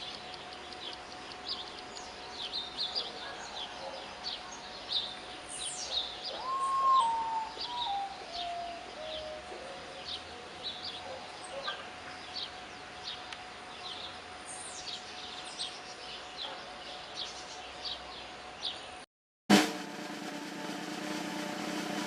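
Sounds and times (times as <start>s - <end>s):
outdoor ambience hiss: 0.0s - 19.0s.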